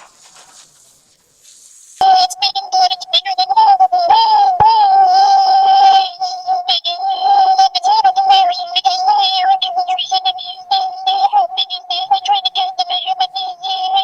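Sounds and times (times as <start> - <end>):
high synthetic singing voice: 2.0 - 14.0.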